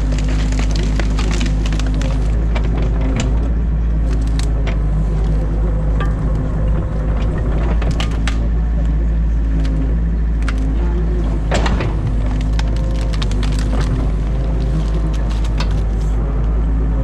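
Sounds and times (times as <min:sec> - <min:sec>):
branches cracking and snapping: 0:00.0 - 0:03.4, 0:04.0 - 0:08.5, 0:09.5 - 0:16.2
excavator diesel engine: 0:00.0 - 0:17.0.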